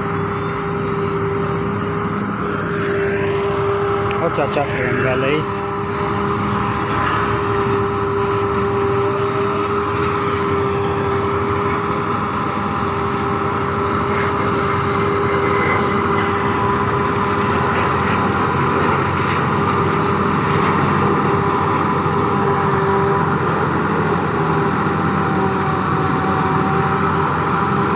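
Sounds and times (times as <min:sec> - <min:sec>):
forage harvester running: 0:00.0 - 0:27.9.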